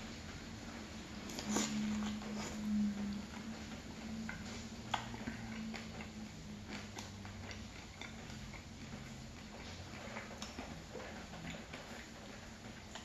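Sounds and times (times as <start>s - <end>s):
wet chewing: 0.7s - 13.0s.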